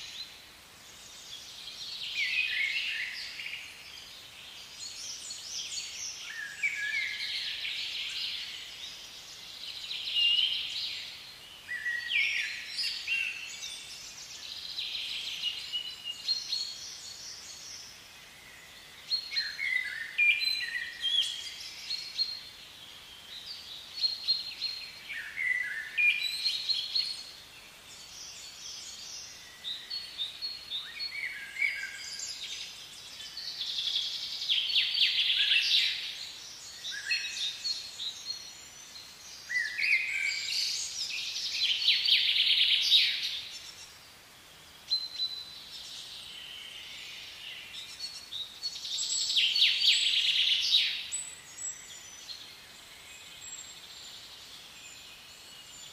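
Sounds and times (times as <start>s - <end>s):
birds chirping song: 0.0s - 55.9s.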